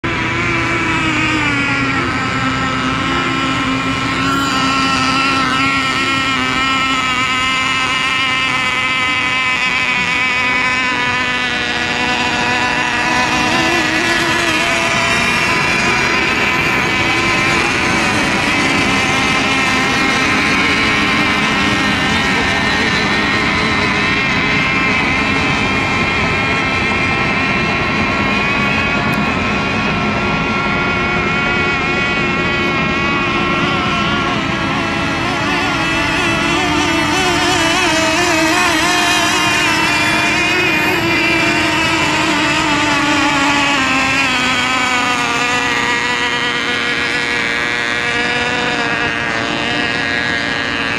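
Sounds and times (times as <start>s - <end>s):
rc boat engines whining: 0.0s - 50.9s.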